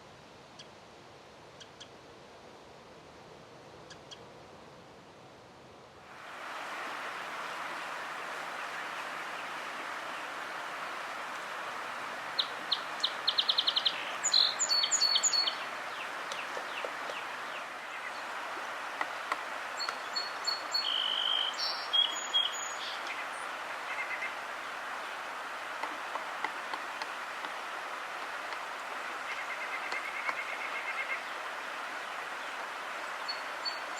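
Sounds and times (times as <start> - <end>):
steady background hiss: 0.0 - 33.9
songbirds chirping: 6.4 - 33.9.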